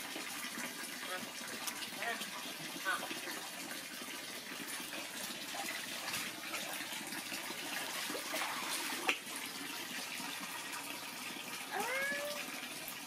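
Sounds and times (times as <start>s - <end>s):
water pouring and splashing: 0.0s - 13.0s.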